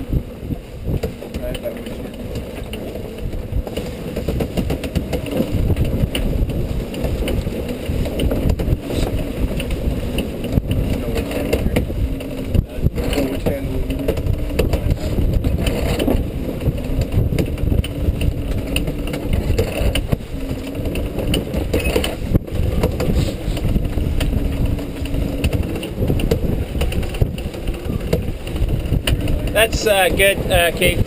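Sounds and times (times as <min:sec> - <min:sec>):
strong wind buffeting microphone: 0:00.0 - 0:31.0.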